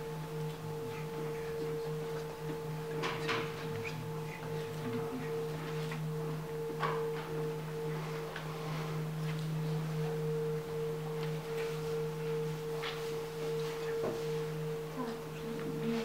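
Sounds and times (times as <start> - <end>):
singing bowl humming: 0.0 - 16.0.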